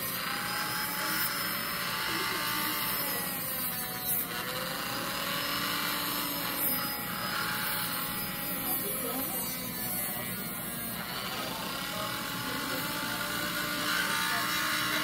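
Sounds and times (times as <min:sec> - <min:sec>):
rotary tool grinding: 0:00.0 - 0:15.0.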